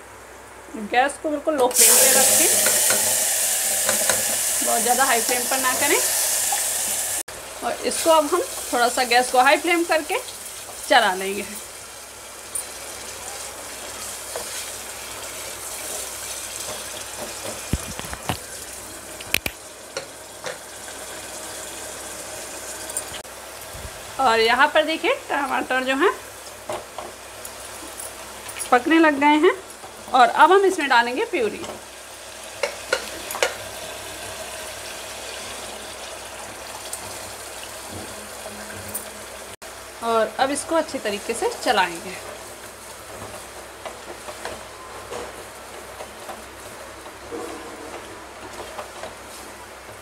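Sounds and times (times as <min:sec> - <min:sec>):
puree sizzling in hot oil: 0:01.6 - 0:50.0.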